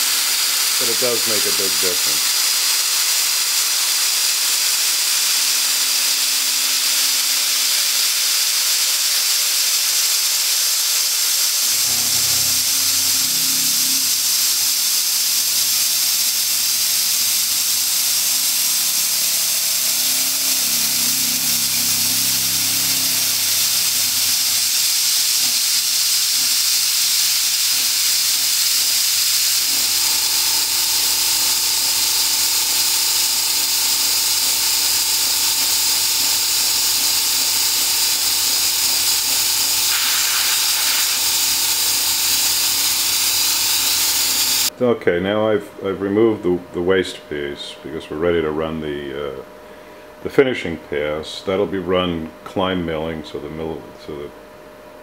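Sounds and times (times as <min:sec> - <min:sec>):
coolant mist spray hissing: 0:00.0 - 0:44.7
milling machine humming: 0:00.1 - 0:44.7.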